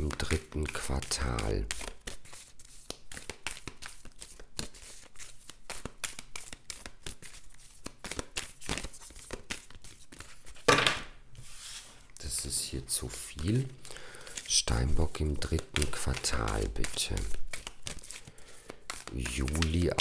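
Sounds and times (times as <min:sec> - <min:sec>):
cards being shuffled: 0:00.0 - 0:10.7, 0:13.0 - 0:20.0
loud card rustle: 0:00.0 - 0:10.7, 0:13.1 - 0:20.0.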